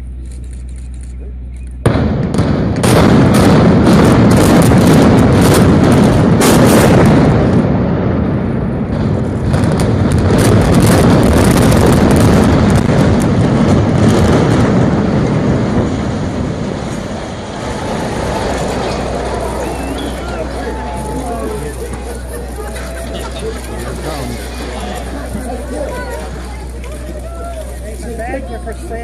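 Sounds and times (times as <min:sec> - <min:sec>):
explosive charges cracking: 0:01.8 - 0:28.3
building collapsing rumble: 0:01.8 - 0:29.0.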